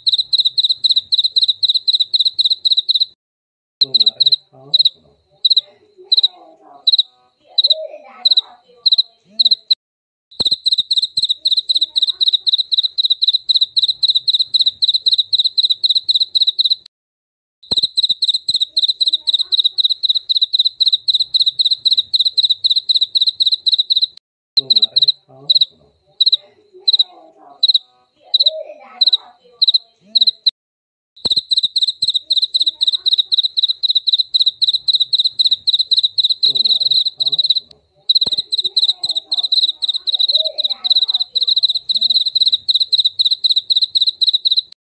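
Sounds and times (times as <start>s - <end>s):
field cricket chirping: 0.0s - 3.2s, 3.8s - 9.7s, 10.4s - 16.8s, 17.7s - 30.5s, 31.2s - 44.8s.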